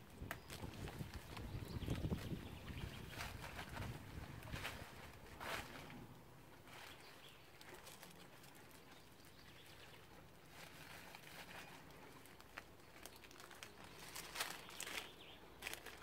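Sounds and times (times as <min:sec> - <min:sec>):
dry leaves and plastic bag rustling: 0:00.0 - 0:16.0.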